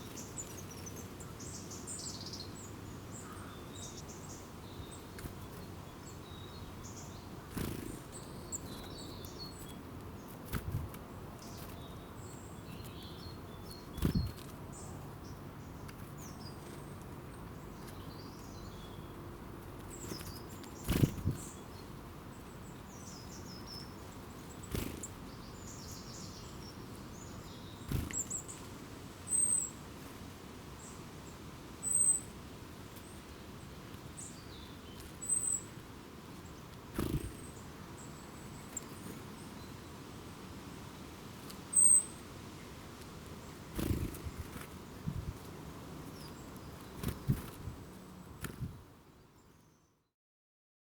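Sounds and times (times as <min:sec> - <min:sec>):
small birds chirping: 0:00.0 - 0:50.1
steady outdoor hiss: 0:00.0 - 0:50.1.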